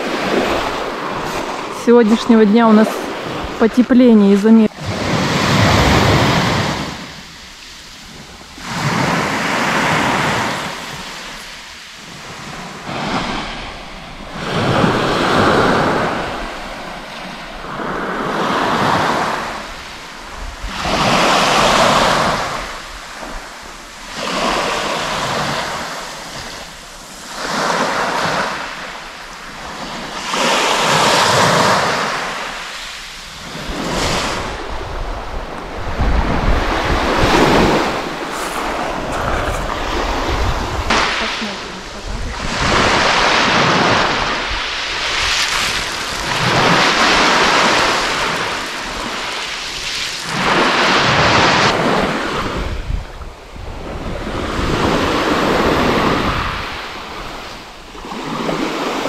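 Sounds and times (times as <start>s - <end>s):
wind rumbling on microphone: 0.0s - 28.9s, 29.5s - 59.0s
waves breaking on shore: 0.0s - 59.0s.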